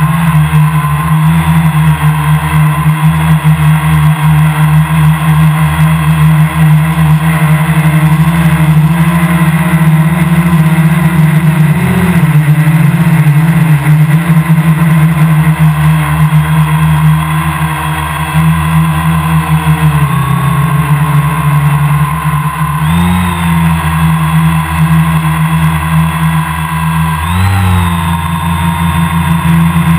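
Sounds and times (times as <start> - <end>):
quadcopter motors whining: 0.0 - 29.9.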